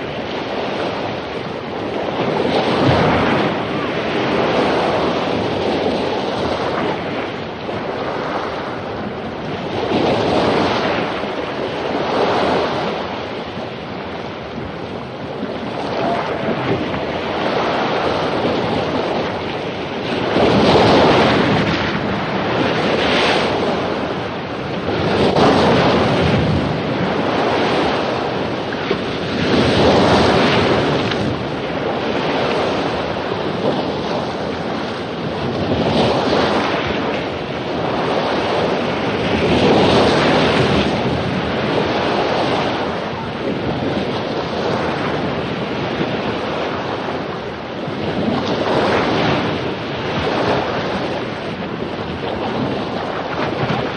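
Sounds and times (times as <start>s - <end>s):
surf breaking on a beach: 0.0s - 53.9s.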